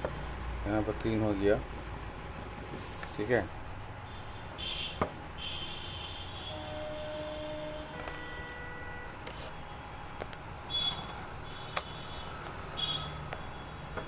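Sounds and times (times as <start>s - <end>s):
hot-air station humming: 0.0s - 14.0s.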